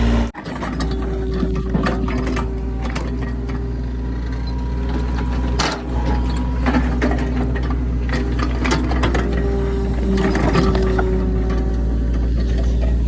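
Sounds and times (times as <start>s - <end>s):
excavator diesel engine running: 0.0s - 13.0s
metal clanks and knocks: 0.4s - 13.0s.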